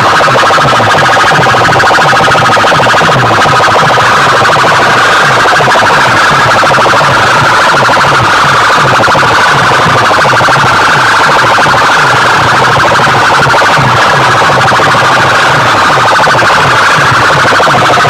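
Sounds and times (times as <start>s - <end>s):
distorted siren-style music on loudspeakers: 0.0s - 18.0s.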